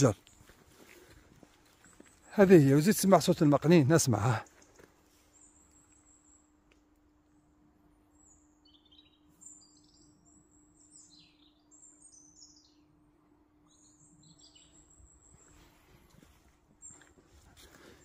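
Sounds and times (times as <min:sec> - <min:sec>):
low steady hum: 0:00.0 - 0:18.0
songbirds chirping: 0:00.0 - 0:18.0.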